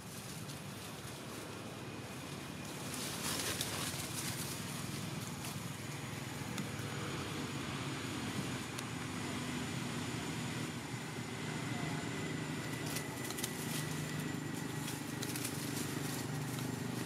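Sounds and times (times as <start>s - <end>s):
distant engine hum: 0.0s - 17.0s
dry leaves crackling: 0.0s - 17.0s.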